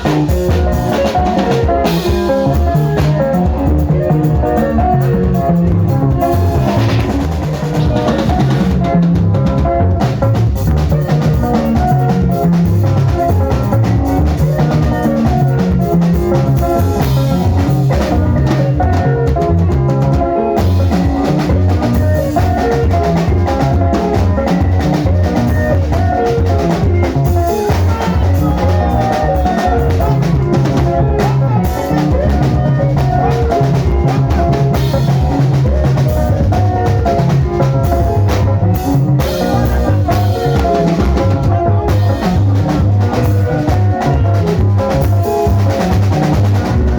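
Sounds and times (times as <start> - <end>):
drum kit and bass beat: 0.0 - 46.9.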